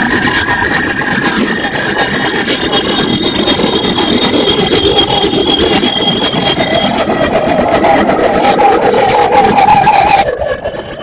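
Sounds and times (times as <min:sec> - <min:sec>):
loud noisy drone: 0:00.0 - 0:11.0.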